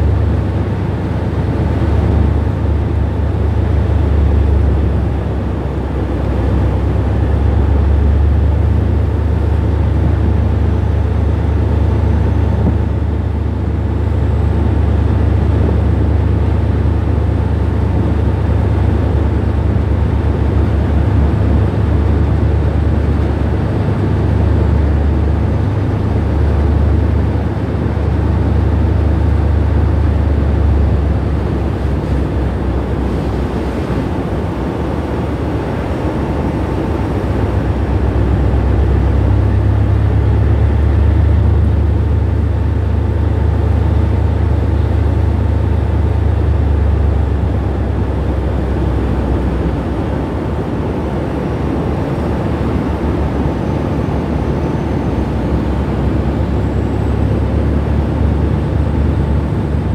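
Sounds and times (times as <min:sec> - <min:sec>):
ship engines rumbling: 0:00.0 - 0:59.9
water wash noise: 0:01.3 - 0:59.9.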